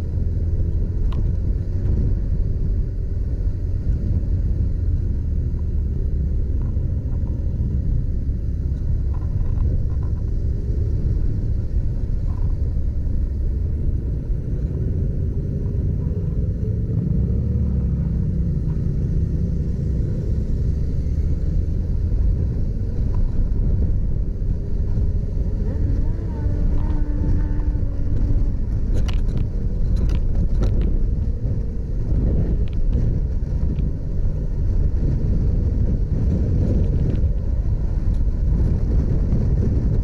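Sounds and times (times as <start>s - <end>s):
motorcycle engine running: 0.0s - 40.0s
wind and road rumble: 0.0s - 40.0s.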